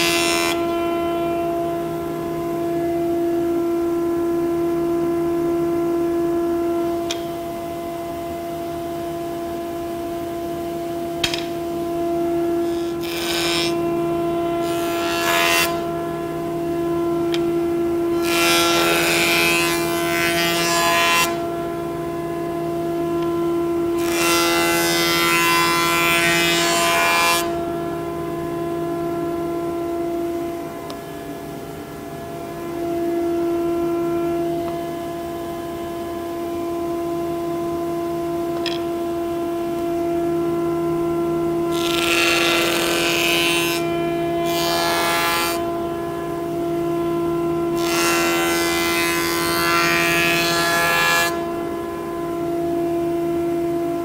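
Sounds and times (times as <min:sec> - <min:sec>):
jointer cutting boards: 0:00.0 - 0:54.0
jointer running hum: 0:00.0 - 0:54.0.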